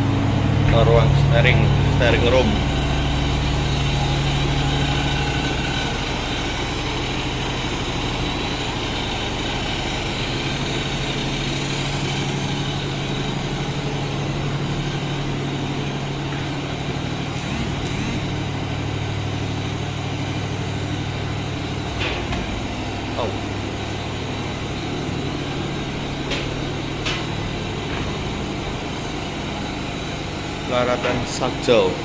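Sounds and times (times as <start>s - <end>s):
hydraulic pump running: 0.0s - 32.0s
ship engines humming: 0.0s - 32.0s.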